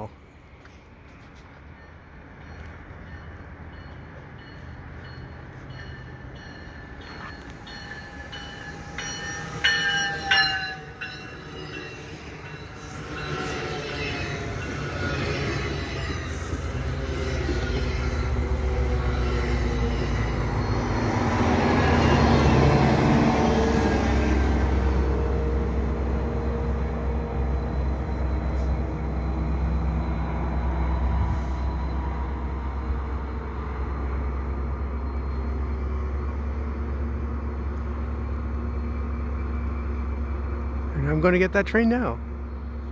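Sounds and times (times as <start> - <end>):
locomotive engine and wheels rumbling: 0.0 - 42.9.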